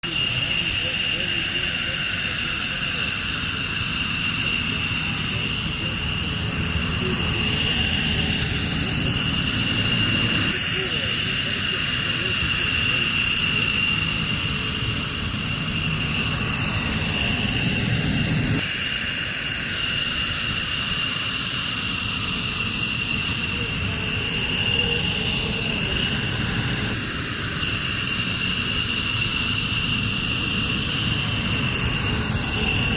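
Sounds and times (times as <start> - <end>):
jet engines whining: 0.0 - 32.9.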